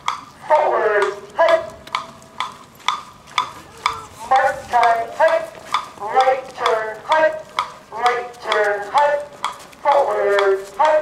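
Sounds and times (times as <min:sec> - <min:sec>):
marching feet on asphalt: 0:00.0 - 0:11.0.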